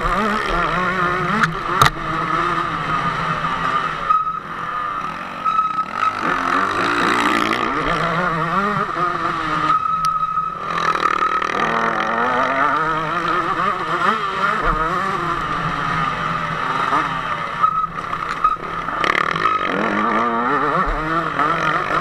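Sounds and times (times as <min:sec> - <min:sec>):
motocross engine revving: 0:00.0 - 0:22.0.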